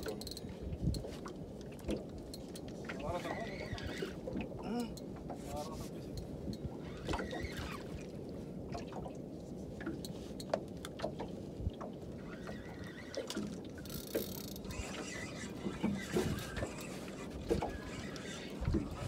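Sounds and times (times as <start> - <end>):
wind and water against hull: 0.0 - 19.0.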